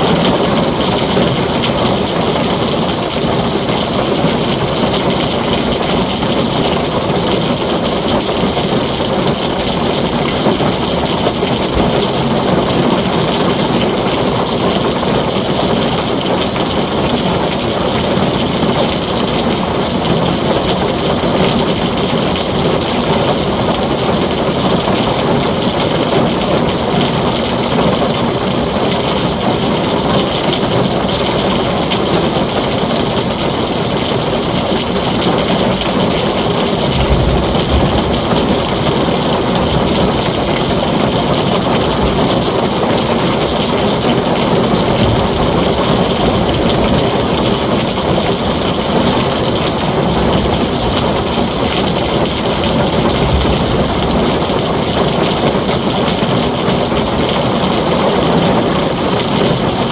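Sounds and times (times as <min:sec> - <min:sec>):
distant thunder rumble: 0:00.0 - 0:27.8, 0:28.8 - 0:58.6
heavy rain on a tin roof: 0:00.0 - 0:59.9.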